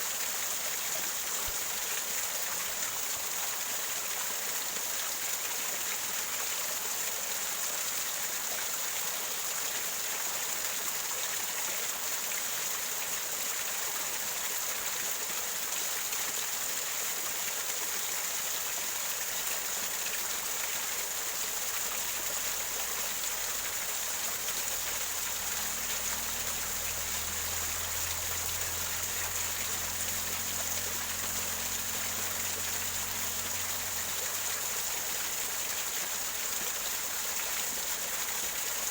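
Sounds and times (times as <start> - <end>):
waterfall splashing over rocks: 0.0 - 38.9.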